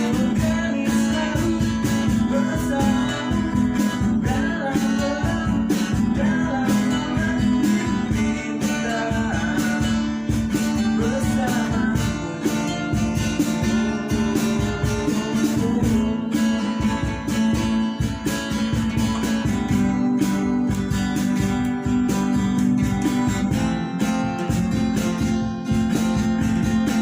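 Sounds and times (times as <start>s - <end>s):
cajon strokes: 0.0s - 27.0s
guitar picking a melody: 0.0s - 27.0s
strummed acoustic guitars: 0.0s - 27.0s.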